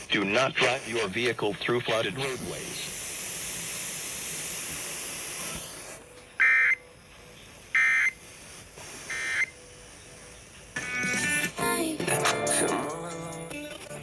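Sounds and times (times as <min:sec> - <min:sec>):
electronic data bursts: 0:00.0 - 0:14.0
radio hiss: 0:00.0 - 0:14.0.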